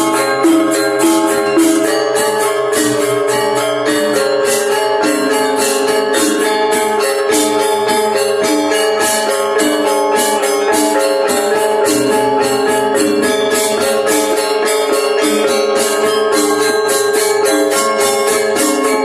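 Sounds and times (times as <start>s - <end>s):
gamelan ensemble playing: 0.0s - 19.0s
jingling metal strokes: 0.0s - 19.0s
kettle gongs ringing fast patterns: 0.0s - 19.0s.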